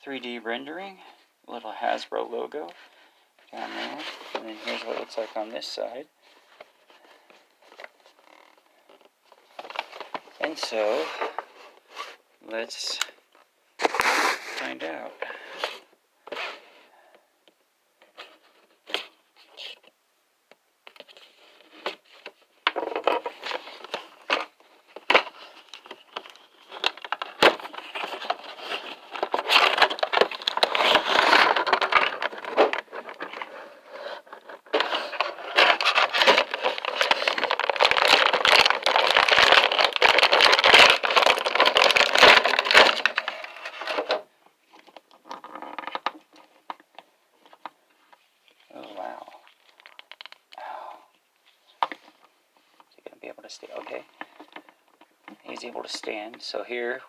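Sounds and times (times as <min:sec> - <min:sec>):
plastic and cardboard packaging crinkling: 0:03.6 - 0:12.2, 0:13.8 - 0:16.4, 0:20.9 - 0:57.0.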